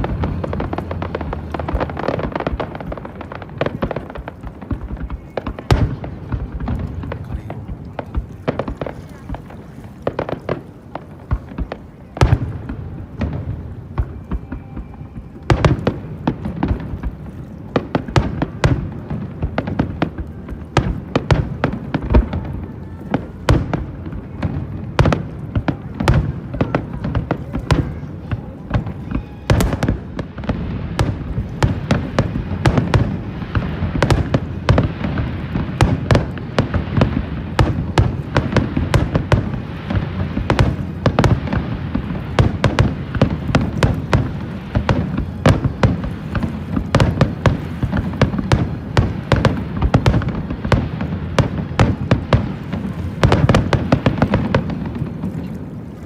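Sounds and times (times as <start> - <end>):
fireworks bursting: 0.0 - 56.0
fireworks crackling: 0.0 - 56.0.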